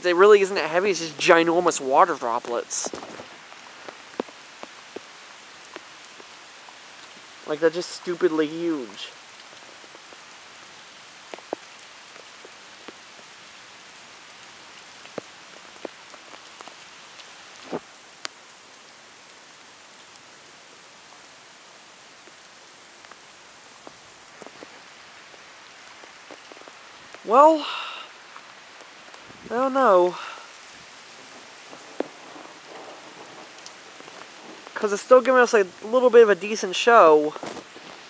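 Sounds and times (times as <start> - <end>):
large raindrops tapping: 0.0 - 38.0
rain hiss: 0.0 - 38.0.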